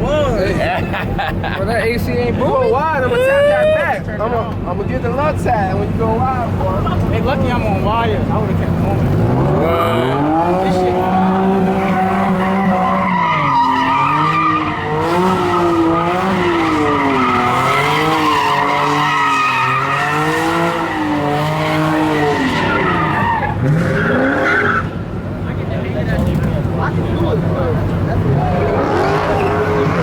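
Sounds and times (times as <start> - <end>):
tyres skidding: 0.0 - 30.0
car engine revving: 5.0 - 30.0.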